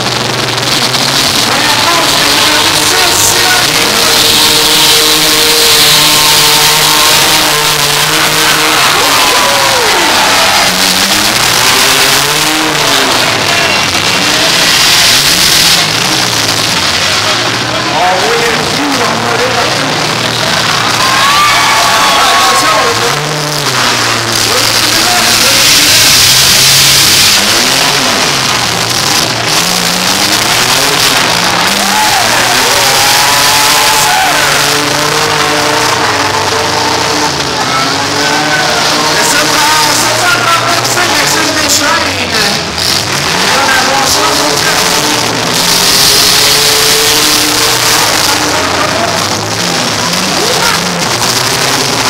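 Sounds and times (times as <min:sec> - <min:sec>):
car engines revving hard: 0:00.0 - 0:52.0
loud rushing noise: 0:00.0 - 0:52.0.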